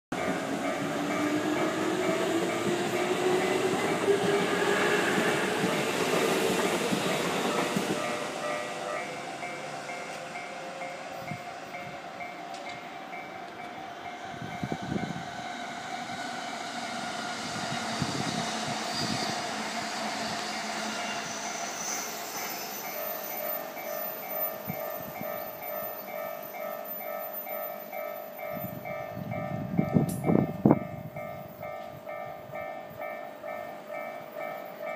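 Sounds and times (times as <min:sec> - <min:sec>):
train on the line: 0:00.1 - 0:34.9.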